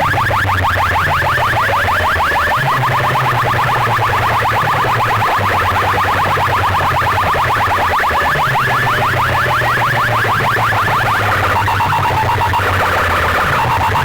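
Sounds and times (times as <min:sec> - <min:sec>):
electronic siren effect chirps: 0:00.0 - 0:14.0.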